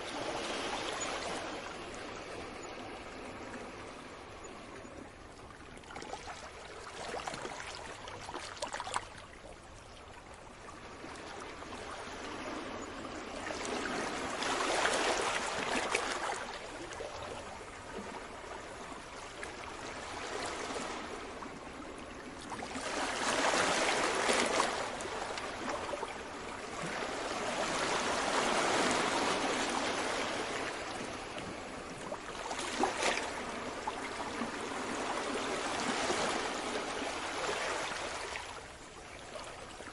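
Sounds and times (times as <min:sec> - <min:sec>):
crackling of receding water: 0:00.0 - 0:39.9
small waves washing onto shore: 0:00.0 - 0:39.9.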